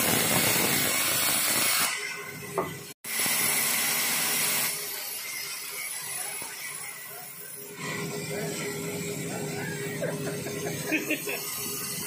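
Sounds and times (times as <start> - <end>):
band saw cutting log: 0.0 - 12.0.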